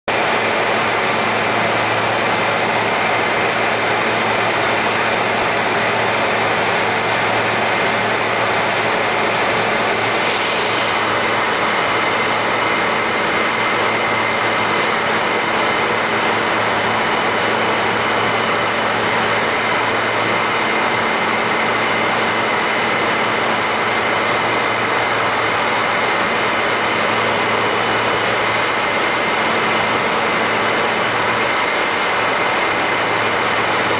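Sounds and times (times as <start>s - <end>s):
airplane engine and propeller: 0.1s - 33.9s.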